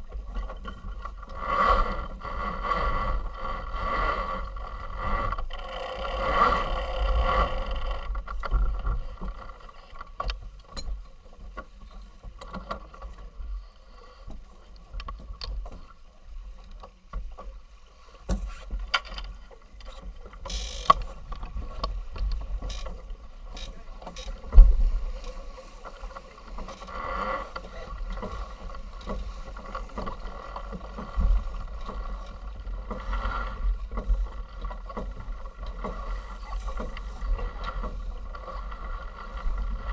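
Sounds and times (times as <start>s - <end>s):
yacht rumble and water wash: 0.0s - 39.9s.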